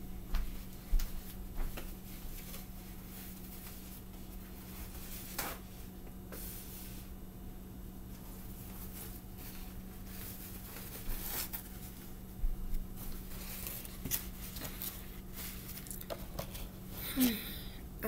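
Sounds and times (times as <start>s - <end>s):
steady low hum: 0.0s - 18.0s
rustling: 0.4s - 7.1s, 8.1s - 16.9s.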